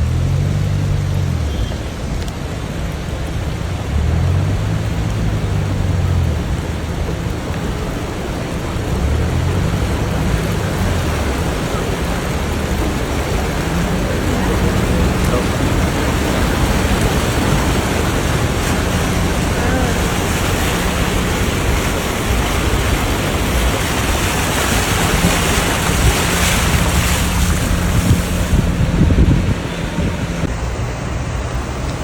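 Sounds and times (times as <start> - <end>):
heavy rain hissing: 0.0 - 32.0.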